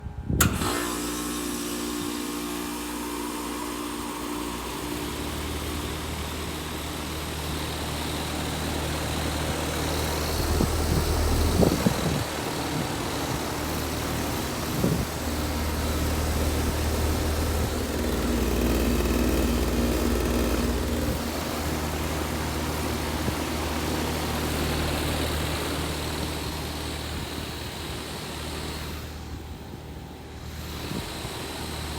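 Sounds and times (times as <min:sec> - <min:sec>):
air conditioner hum: 0:00.0 - 0:27.8
fan airflow rushing: 0:00.0 - 0:31.9.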